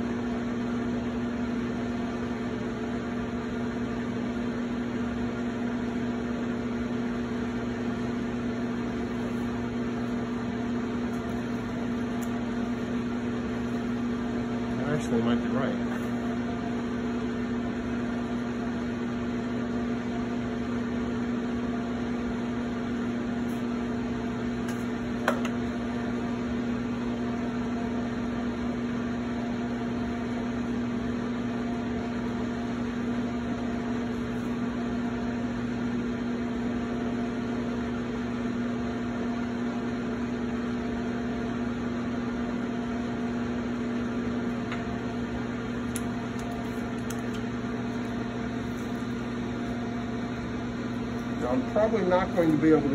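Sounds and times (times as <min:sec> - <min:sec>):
potter's wheel motor humming: 0:00.0 - 0:52.9.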